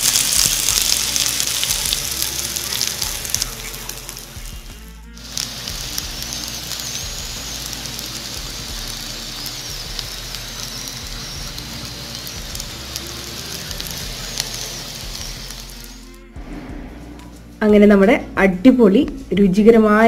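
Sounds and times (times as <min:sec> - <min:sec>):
food sizzling in oil: 0:00.0 - 0:16.3.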